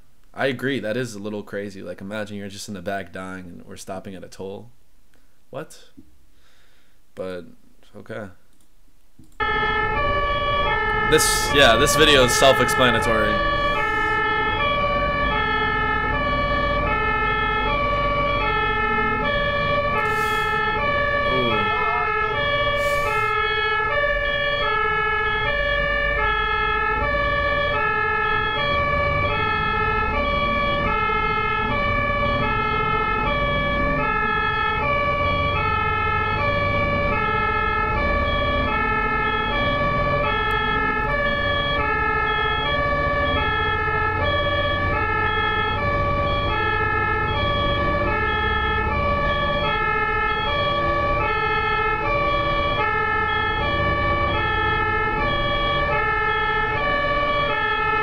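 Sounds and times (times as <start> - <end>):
low road rumble: 9.4 - 58.0
two-tone ambulance siren: 9.4 - 58.0.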